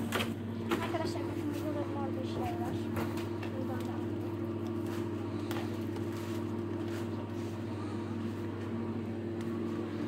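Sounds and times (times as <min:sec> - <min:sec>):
low machinery hum: 0:00.0 - 0:10.0.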